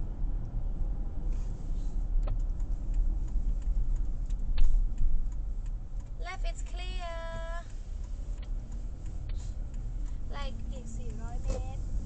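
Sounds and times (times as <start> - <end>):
car driving rumble inside cabin: 0.0 - 12.0.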